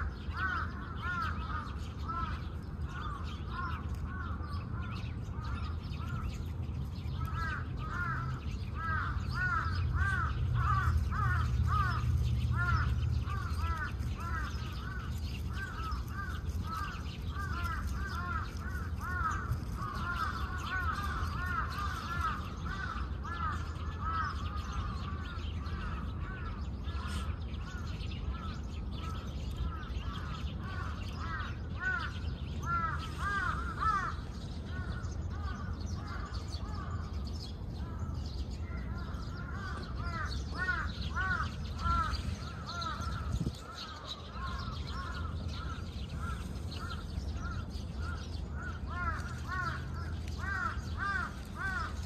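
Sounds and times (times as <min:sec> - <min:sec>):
birds calling: 0:00.0 - 0:52.0
low outdoor rumble: 0:00.0 - 0:52.0.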